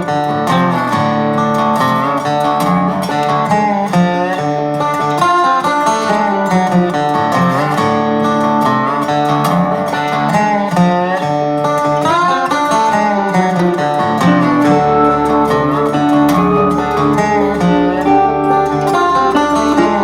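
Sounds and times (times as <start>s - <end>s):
country acoustic guitar: 1.2s - 20.0s.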